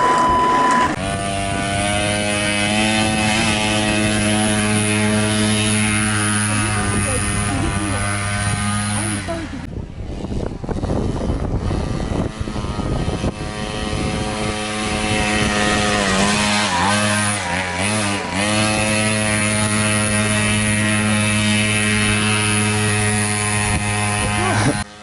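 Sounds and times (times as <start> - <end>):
small motorcycle engine revving: 0.0 - 25.0.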